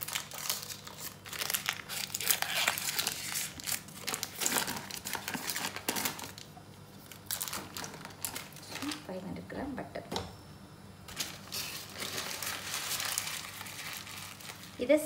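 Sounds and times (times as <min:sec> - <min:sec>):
paper wrapper crinkling and tearing: 0:00.0 - 0:09.1, 0:11.1 - 0:15.0.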